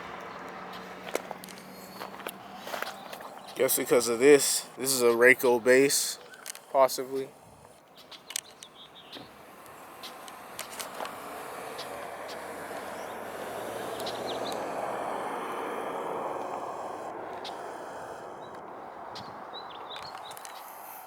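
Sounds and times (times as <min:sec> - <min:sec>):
road vehicle passing by: 0:00.0 - 0:21.0.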